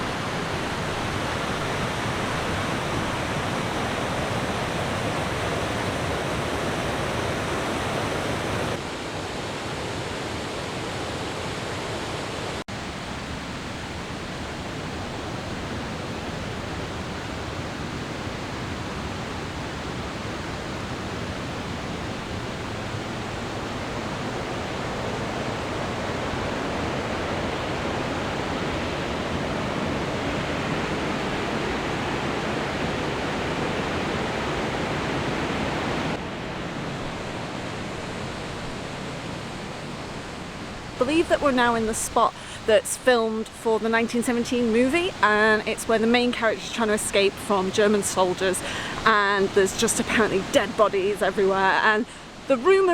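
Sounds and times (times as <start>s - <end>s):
river rushing over rocks: 0.0s - 42.8s, 43.7s - 52.9s.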